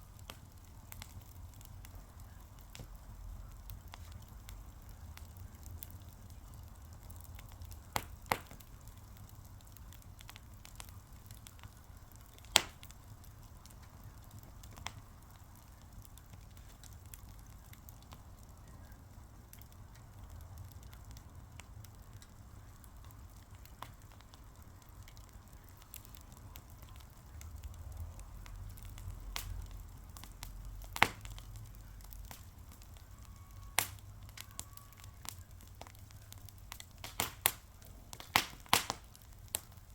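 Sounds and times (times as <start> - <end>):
fire crackling with pops: 0.0 - 39.9.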